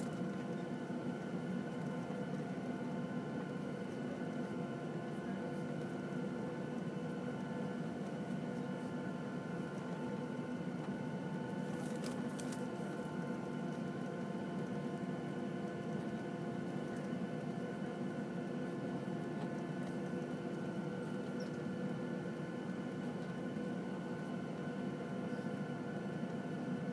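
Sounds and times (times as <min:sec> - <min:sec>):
airplane cabin hum: 0:00.0 - 0:26.9.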